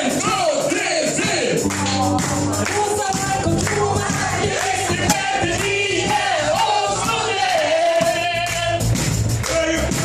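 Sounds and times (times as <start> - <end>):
crowd voices: 0.0 - 8.6
person singing with vibrato: 0.0 - 10.0
acoustic accompaniment: 1.6 - 10.0.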